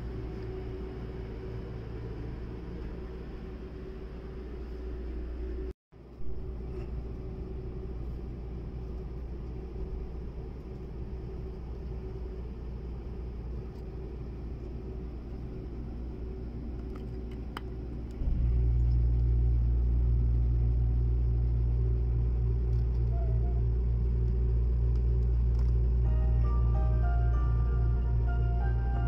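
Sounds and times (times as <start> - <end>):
faint hum: 0.0 - 29.0
train carriage rumble: 0.0 - 29.0.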